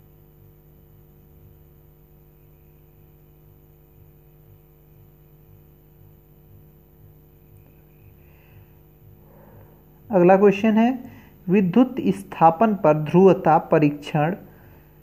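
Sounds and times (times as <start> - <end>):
pulsing electrical hum: 0.0 - 15.0.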